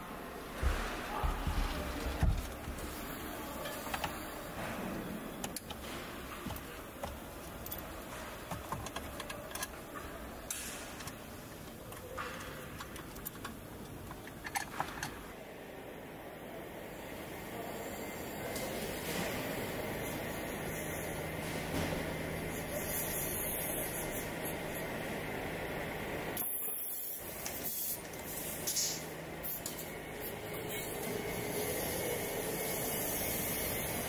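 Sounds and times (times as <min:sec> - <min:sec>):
factory background noise: 0:00.0 - 0:34.0.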